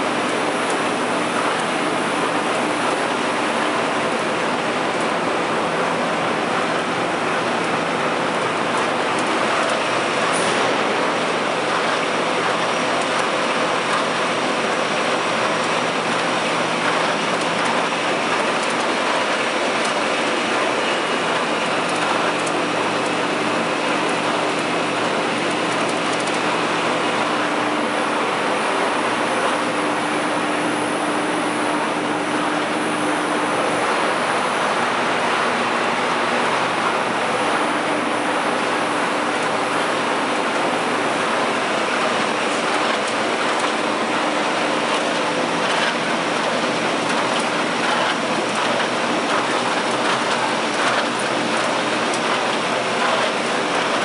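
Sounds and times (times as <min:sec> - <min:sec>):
printing press running: 0:00.0 - 0:54.0.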